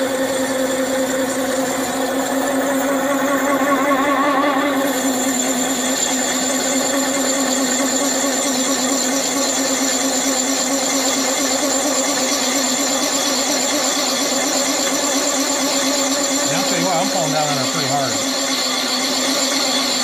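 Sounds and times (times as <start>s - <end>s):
milling machine running: 0.0s - 20.0s.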